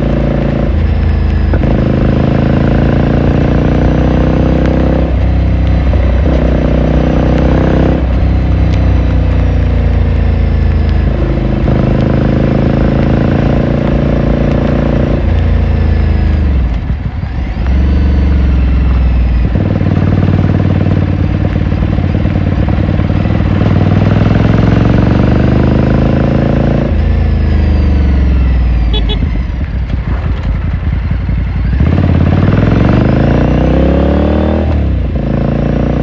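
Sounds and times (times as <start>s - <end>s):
motorcycle engine while riding: 0.0s - 36.0s.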